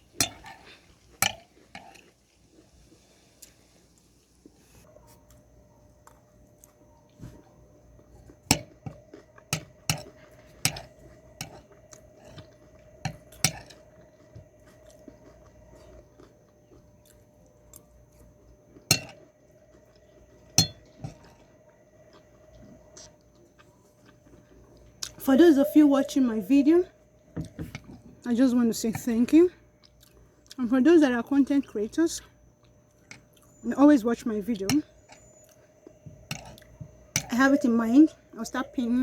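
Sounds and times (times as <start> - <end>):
faint steady hum: 0.0 - 39.0
chewing: 0.1 - 26.2, 29.0 - 30.6, 31.6 - 33.7, 34.5 - 38.3.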